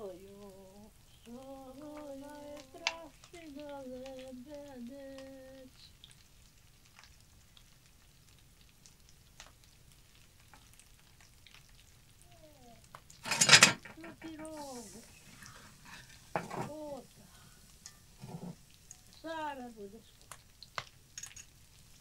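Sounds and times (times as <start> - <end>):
fish frying in hot oil: 0.0 - 22.0.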